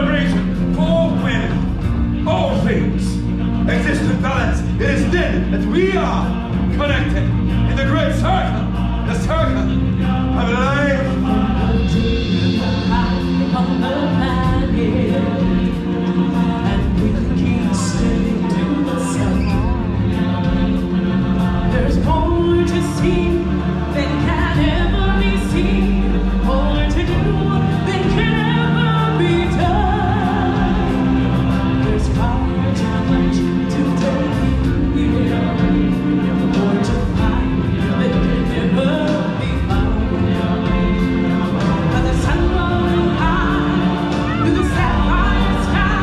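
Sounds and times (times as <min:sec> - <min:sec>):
choir singing: 0:00.0 - 0:46.0
instrumental backing with steady beat: 0:00.0 - 0:46.0.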